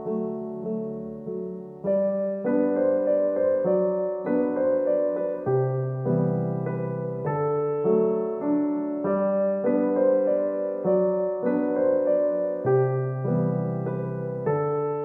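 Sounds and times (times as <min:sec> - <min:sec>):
instrumental music: 0:00.0 - 0:15.0.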